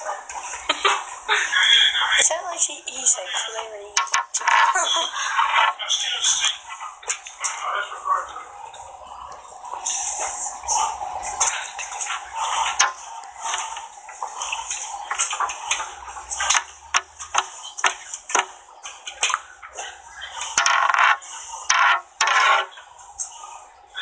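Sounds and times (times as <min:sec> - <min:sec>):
steady high hiss: 0:00.0 - 0:24.0
voices: 0:00.0 - 0:24.0.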